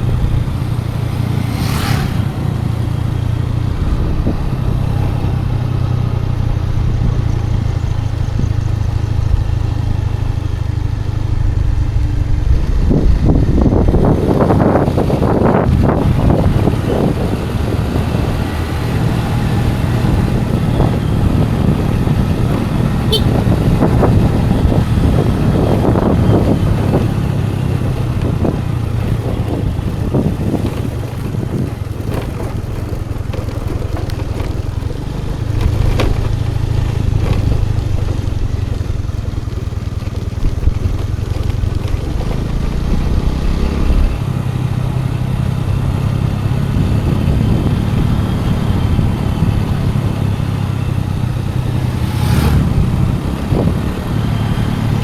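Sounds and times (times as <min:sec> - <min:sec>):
road noise: 0:00.0 - 0:55.0
scooter engine running: 0:00.0 - 0:55.0.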